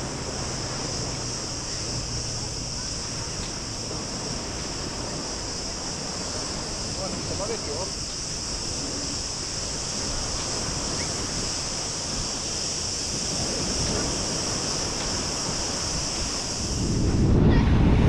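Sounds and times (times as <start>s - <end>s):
steady high hiss: 0.0s - 17.5s
sea surf washing onto beach: 0.0s - 18.0s
wind buffeting microphone: 0.0s - 18.0s.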